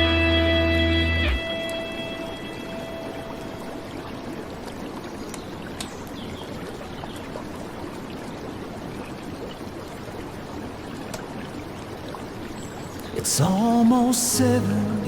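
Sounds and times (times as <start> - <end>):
flowing river water: 1.4 - 15.0.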